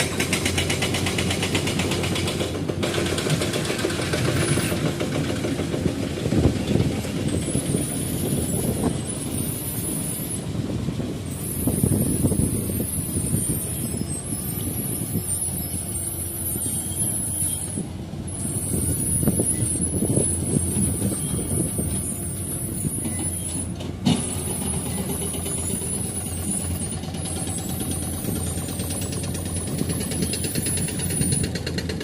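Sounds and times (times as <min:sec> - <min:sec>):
diesel engine rumble: 0:00.0 - 0:32.0.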